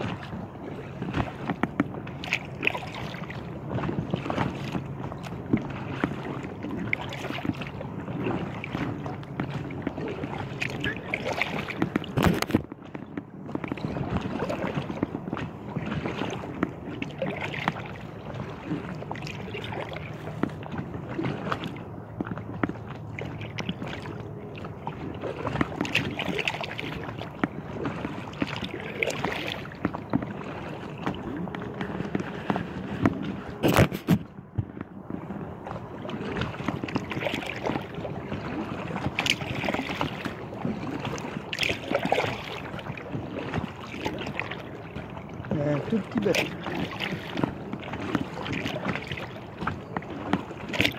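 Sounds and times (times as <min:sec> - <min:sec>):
water slapping against kayak hull: 0:00.0 - 0:50.9.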